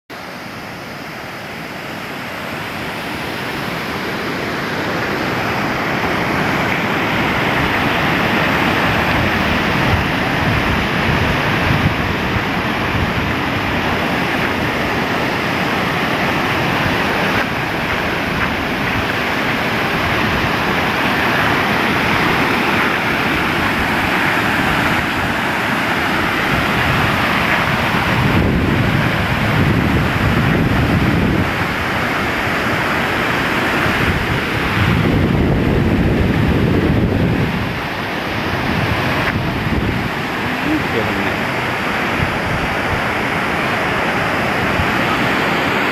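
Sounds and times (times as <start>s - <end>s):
waterfall roaring: 0.1s - 45.9s
wind buffeting microphone: 2.8s - 45.9s.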